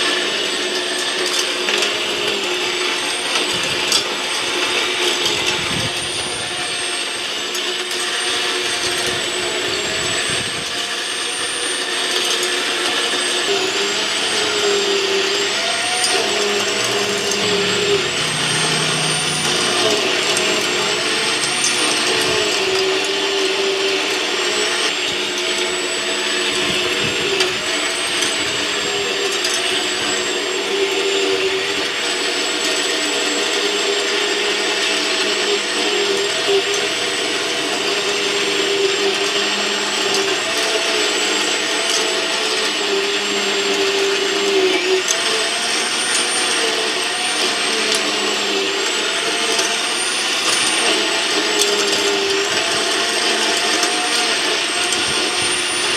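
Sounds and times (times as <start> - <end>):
electric cultivator motor whining: 0.0 - 55.9.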